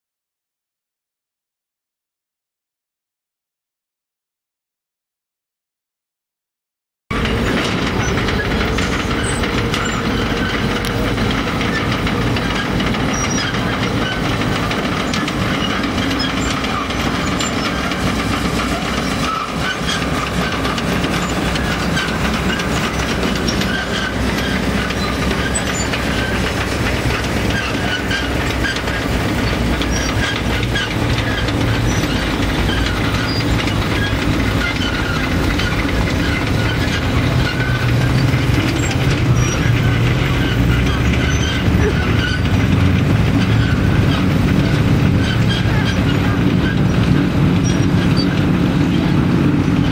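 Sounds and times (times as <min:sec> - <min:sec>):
metal tracks clattering: 0:07.1 - 0:49.9
tank engine running: 0:07.1 - 0:49.9.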